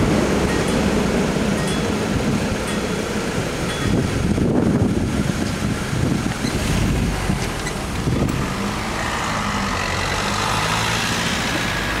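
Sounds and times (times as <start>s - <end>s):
car engines idling: 0.0s - 12.0s.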